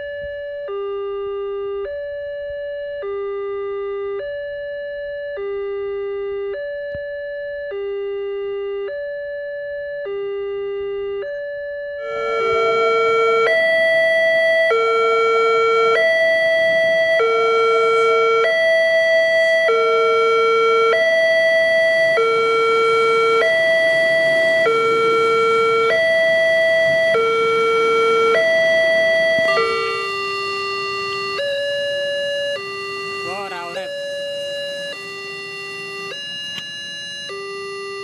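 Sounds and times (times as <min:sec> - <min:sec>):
level crossing two-tone alarm: 0:00.0 - 0:38.0.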